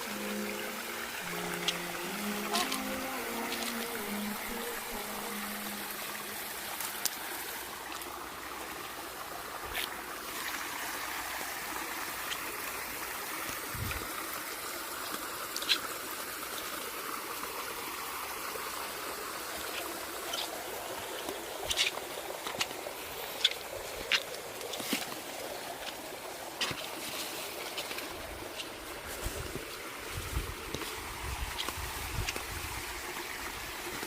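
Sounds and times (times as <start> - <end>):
water running: 0.0 - 34.0.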